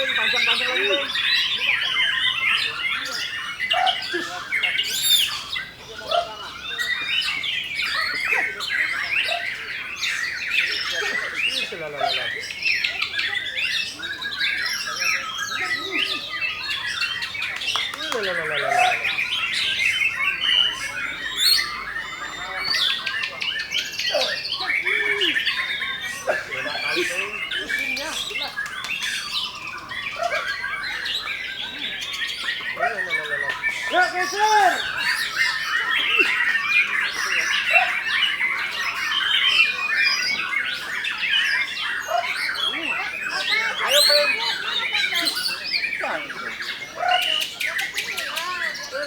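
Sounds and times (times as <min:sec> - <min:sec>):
many birds singing: 0:00.0 - 0:49.0.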